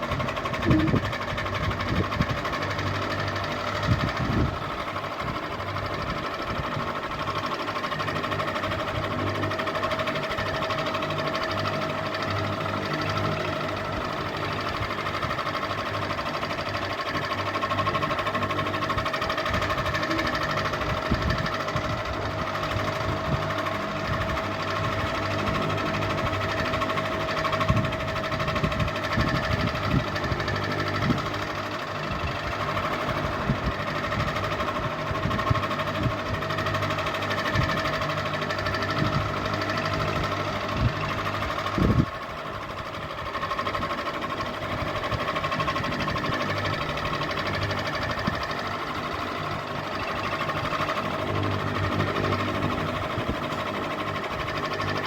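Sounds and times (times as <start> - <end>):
ceiling fan motor hum: 0.0 - 55.0
fan clicks and knocks: 0.0 - 55.0.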